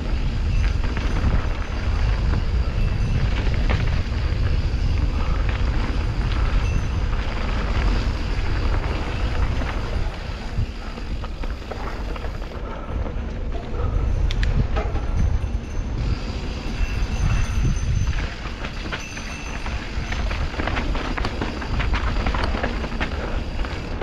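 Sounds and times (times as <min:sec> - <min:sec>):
bike clicks and rattles: 0:00.0 - 0:24.0
wind on camera: 0:00.0 - 0:24.0.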